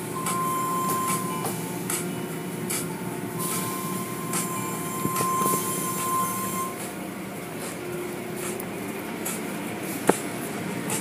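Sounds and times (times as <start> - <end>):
high-pitched whine: 0.0 - 9.7
car wash machinery din: 0.0 - 11.0.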